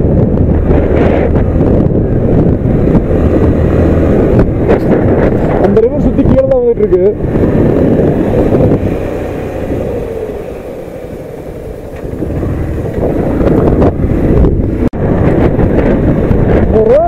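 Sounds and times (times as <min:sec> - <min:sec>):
motorcycle engine: 0:00.0 - 0:16.9
wind rushing over microphone: 0:00.0 - 0:17.0.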